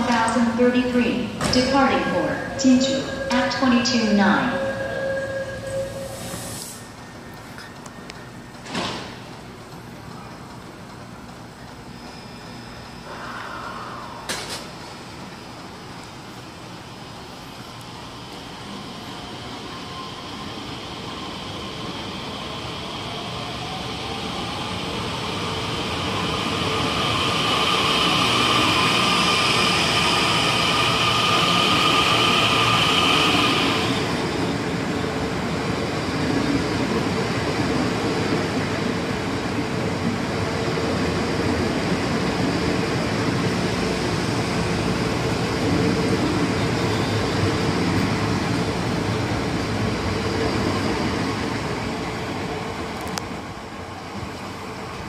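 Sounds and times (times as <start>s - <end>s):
high train whine: 0.0s - 55.0s
train wheels rumbling on rails: 5.6s - 55.0s.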